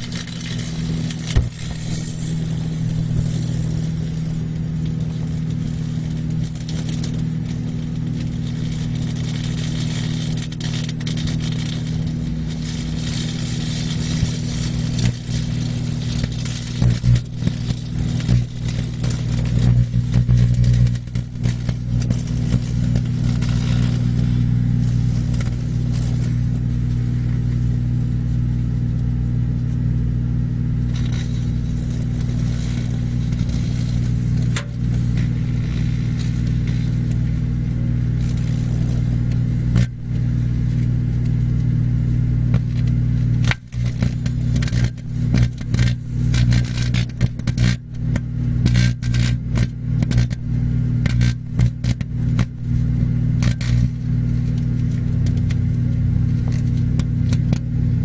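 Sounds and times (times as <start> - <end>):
electrical arcing crackling: 0.0 - 58.0
microwave oven humming: 0.0 - 58.0.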